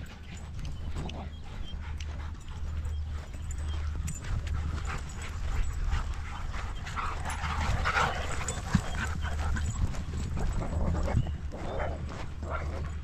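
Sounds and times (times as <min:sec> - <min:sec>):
dogs playing rough: 0:00.0 - 0:13.0.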